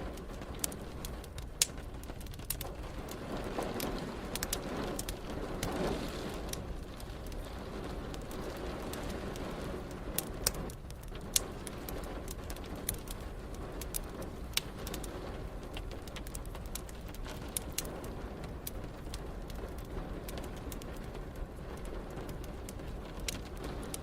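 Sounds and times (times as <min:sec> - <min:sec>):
rain hissing: 0:00.0 - 0:24.0
wood fire crackling and popping: 0:00.0 - 0:24.0.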